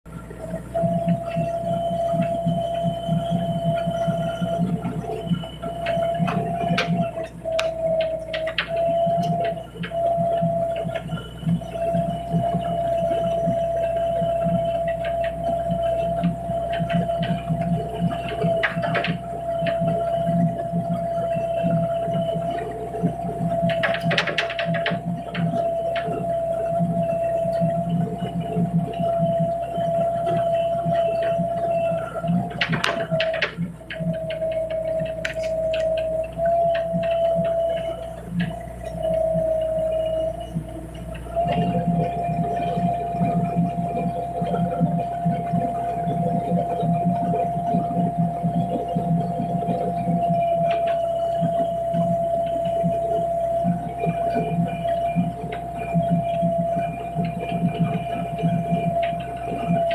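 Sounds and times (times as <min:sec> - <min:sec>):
diesel engine throbbing: 0:00.0 - 0:59.9
excavator running: 0:00.1 - 0:59.9
hydraulic whine: 0:00.1 - 0:59.9.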